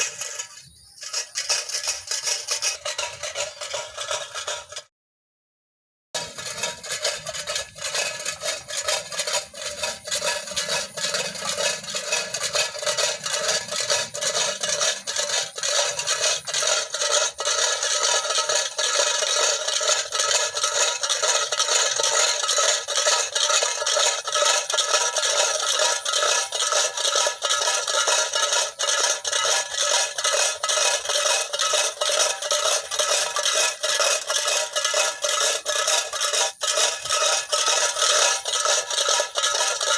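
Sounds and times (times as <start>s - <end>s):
tin cans rattling with stones: 0.0s - 4.8s, 6.2s - 39.9s.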